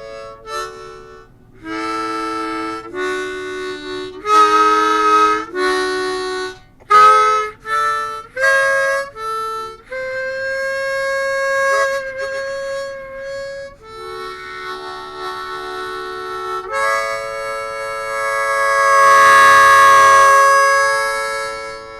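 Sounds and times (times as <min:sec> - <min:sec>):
blues harmonica playing: 0:00.0 - 0:21.9.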